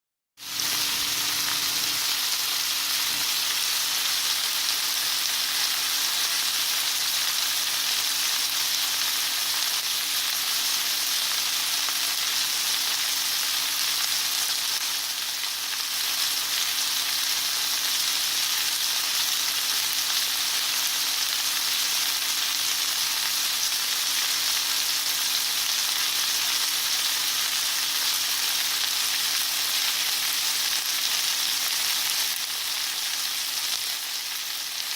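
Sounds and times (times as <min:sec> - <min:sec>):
steak sizzling: 0:00.4 - 0:34.9.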